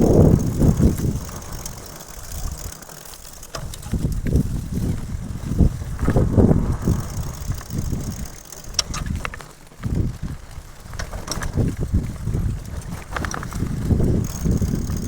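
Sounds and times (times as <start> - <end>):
bike clicks and rattles: 0.0 - 15.0
bike riding low rumble: 0.0 - 15.0.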